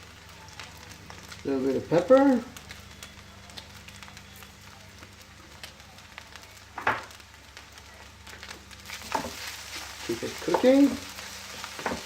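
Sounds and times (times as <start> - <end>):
rice sizzling in a pan: 0.0 - 12.0
small crackles: 0.0 - 12.0.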